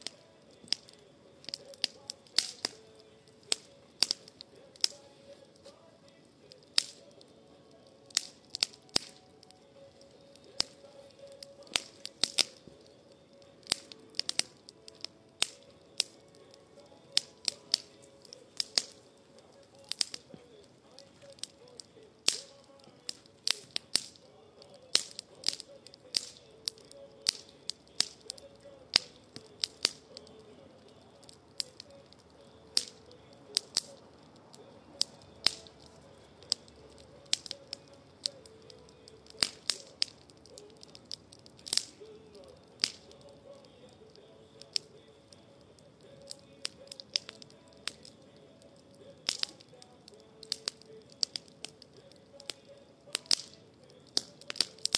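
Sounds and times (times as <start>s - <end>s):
campfire crackling: 0.0s - 54.9s.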